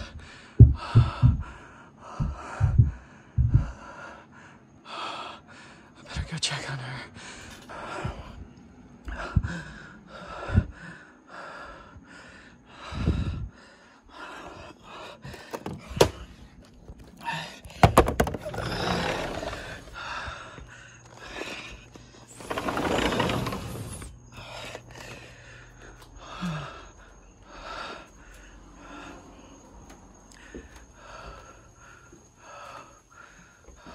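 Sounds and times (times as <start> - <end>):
heavy rapid breathing: 0.0 - 6.4, 7.1 - 33.9.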